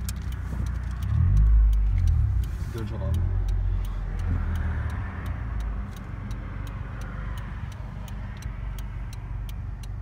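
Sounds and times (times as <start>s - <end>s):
car engine and road rumble: 0.0s - 10.0s
turn signal ticking: 0.0s - 10.0s.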